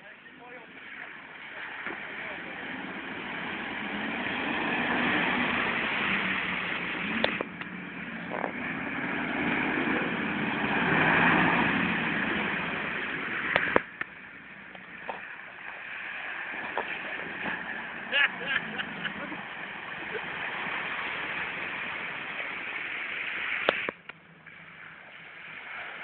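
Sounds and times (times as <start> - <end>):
engine running: 0.0 - 26.0
water splashing around wheels: 0.0 - 26.0.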